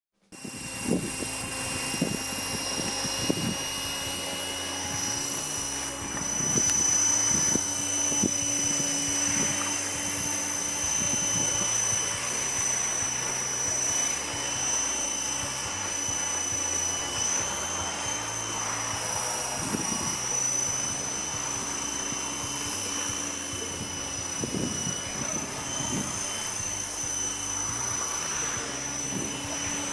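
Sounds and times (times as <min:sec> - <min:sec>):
model helicopter rotor whine: 0:00.2 - 0:29.9.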